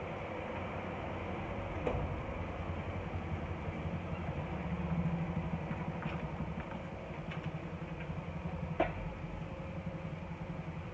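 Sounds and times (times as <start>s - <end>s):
car engine idling: 0.4s - 10.9s.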